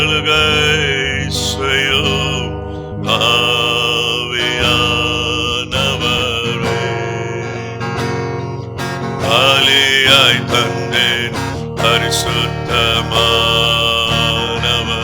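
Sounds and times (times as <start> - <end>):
slow worship music: 0.0 - 15.0.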